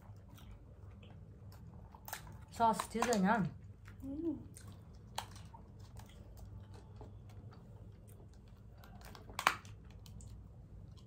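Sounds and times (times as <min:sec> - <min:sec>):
low steady hum: 0:00.0 - 0:11.0
wet chewing and mouth clicks: 0:00.0 - 0:11.0.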